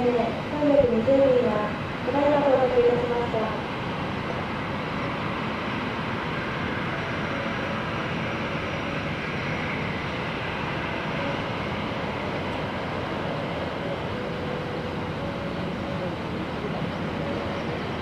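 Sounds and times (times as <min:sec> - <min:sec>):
jet engines at taxi thrust: 0:00.0 - 0:18.0.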